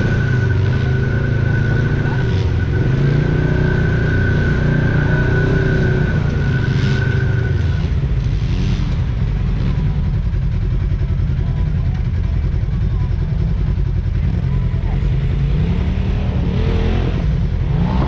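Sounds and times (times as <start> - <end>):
utility vehicle engine revving: 0.0 - 12.1, 13.4 - 18.0.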